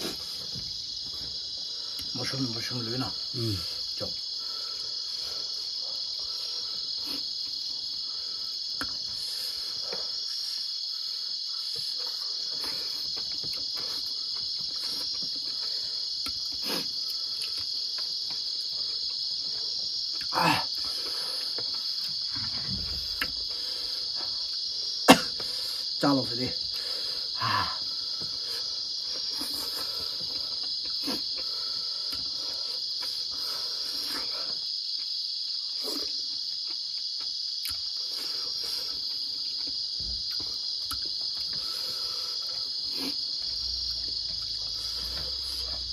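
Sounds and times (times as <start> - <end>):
crickets trilling: 0.0 - 45.9
mouth sounds of eating: 3.1 - 36.8, 37.6 - 45.9.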